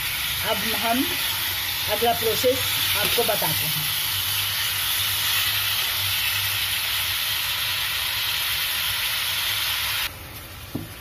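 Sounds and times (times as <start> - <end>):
chicken frying in hot oil: 0.0 - 11.0.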